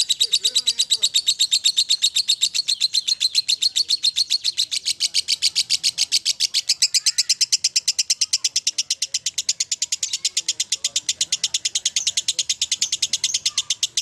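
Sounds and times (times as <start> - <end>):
bird chattering high-pitched notes: 0.0 - 14.0.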